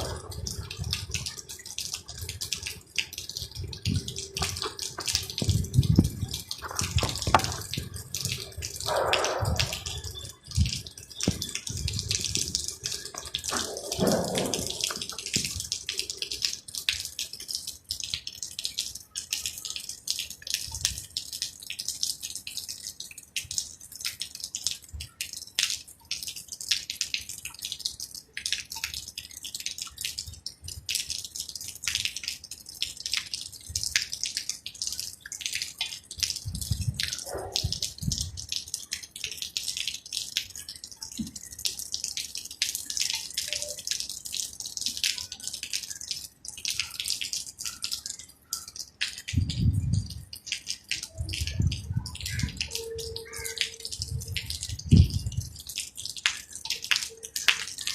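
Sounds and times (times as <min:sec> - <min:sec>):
rain dripping and pattering: 0:00.0 - 0:57.9.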